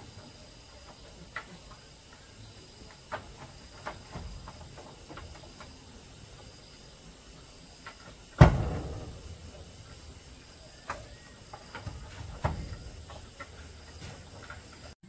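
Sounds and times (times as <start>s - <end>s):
wooden boards knocking together: 0.0s - 15.0s.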